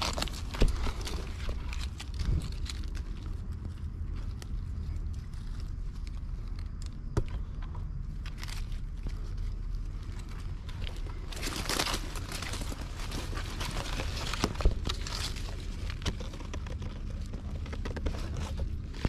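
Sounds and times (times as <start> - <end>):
dry leaves rustling and crackling: 0.0 - 7.0, 8.1 - 19.0
steady low rumble: 0.0 - 19.0.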